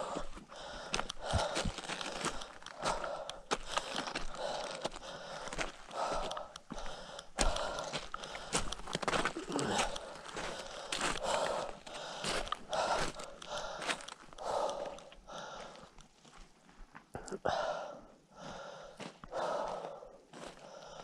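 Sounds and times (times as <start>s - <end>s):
heavy breathing: 0.0s - 16.4s, 17.1s - 21.0s
footsteps crunching on gritty trail: 0.0s - 17.1s, 18.4s - 21.0s.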